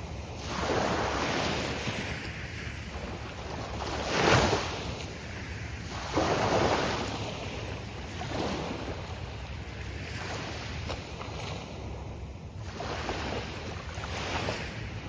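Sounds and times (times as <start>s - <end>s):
waves breaking on beach: 0.0s - 15.0s
wind rumbling on microphone: 0.0s - 15.0s.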